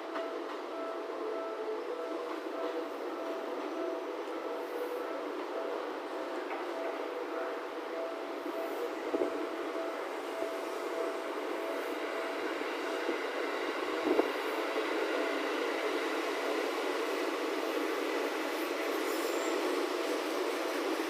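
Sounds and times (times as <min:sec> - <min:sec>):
electric train rail noise: 0:00.0 - 0:21.0.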